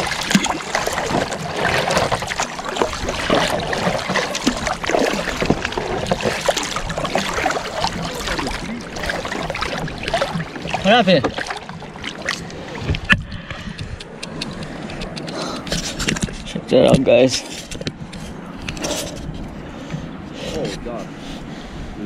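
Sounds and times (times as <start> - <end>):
water trickling and splashing: 0.0 - 21.4
kayak paddle strokes in water: 0.0 - 21.6.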